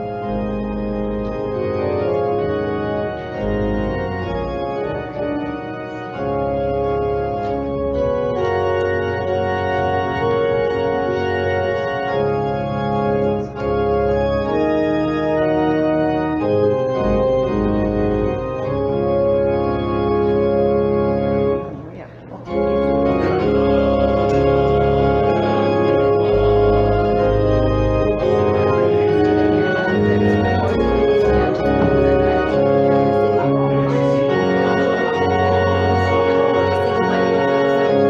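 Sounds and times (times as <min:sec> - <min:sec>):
deep organ bass notes: 0:00.0 - 0:38.0
organ chords: 0:00.0 - 0:38.0.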